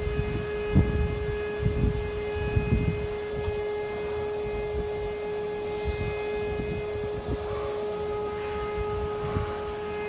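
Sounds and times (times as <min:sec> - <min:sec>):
engraving machine spindle whine: 0:00.0 - 0:10.0.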